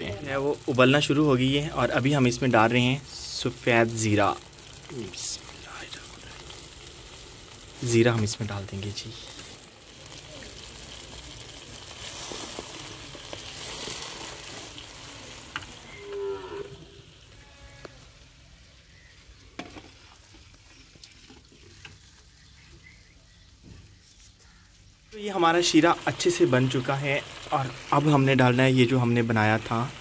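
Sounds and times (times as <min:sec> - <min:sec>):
syrup sizzling and bubbling: 0:00.0 - 0:30.0.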